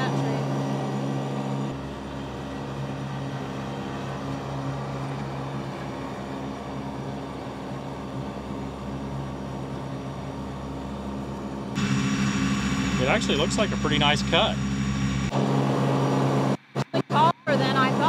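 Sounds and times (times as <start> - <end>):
diesel tractor mowing: 0.0 - 15.4.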